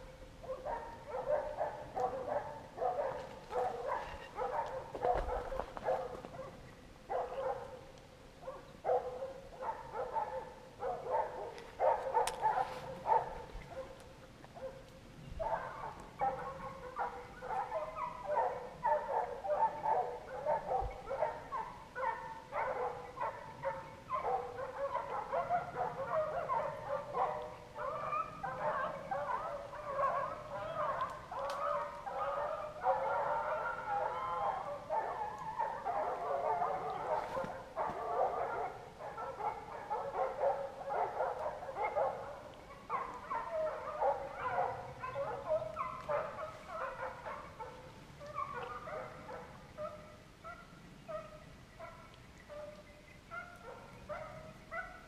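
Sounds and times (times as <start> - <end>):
hounds baying: 0.0 - 55.0.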